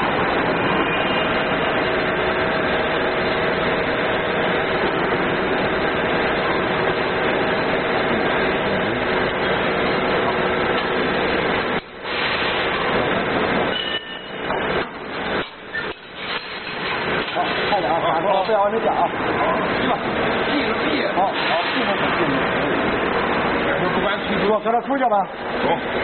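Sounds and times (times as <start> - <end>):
workshop machinery drone: 0.0 - 26.0.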